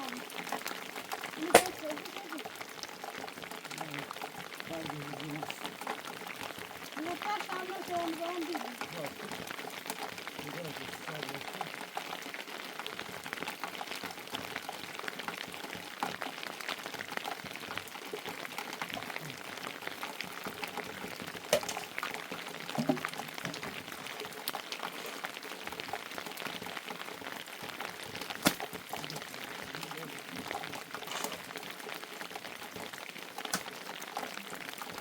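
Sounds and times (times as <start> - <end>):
rain pattering: 0.0 - 35.0
sharp raindrop clicks: 0.0 - 35.0.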